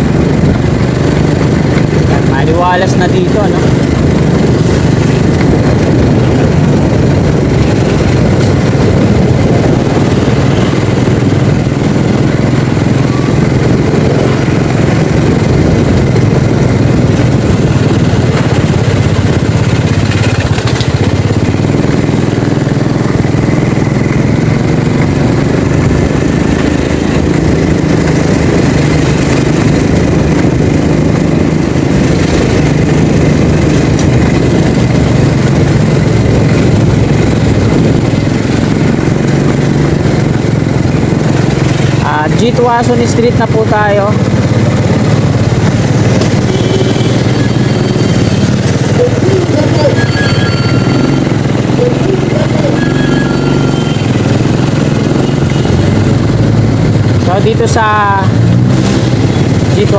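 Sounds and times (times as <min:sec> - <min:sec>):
road and wind noise: 0:00.0 - 0:59.9
vehicle engine running: 0:00.0 - 0:59.9.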